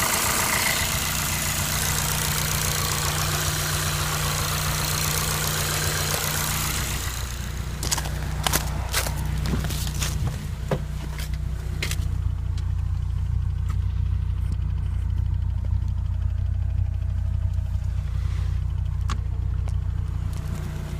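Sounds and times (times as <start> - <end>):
car engine idling: 0.0 - 20.9
engine ticking: 0.0 - 20.9.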